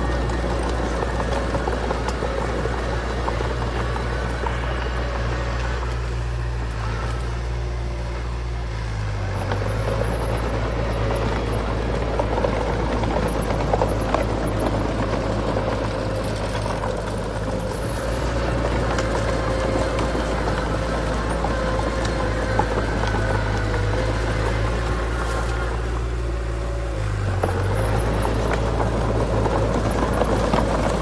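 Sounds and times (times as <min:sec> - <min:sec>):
diesel machinery engine rumble: 0:00.0 - 0:31.0.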